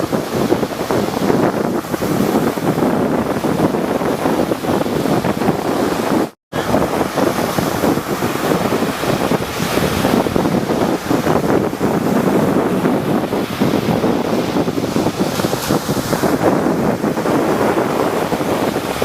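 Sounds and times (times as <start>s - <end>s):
sea waves breaking: 0.0s - 19.0s
wind buffeting microphone: 0.0s - 19.0s.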